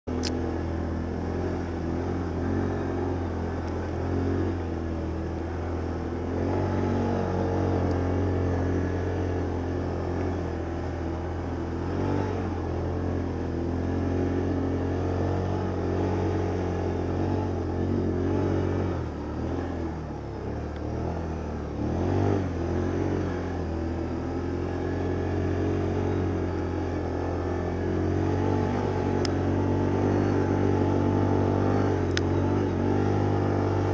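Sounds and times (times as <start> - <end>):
quad bike engine running: 0.0 - 33.9.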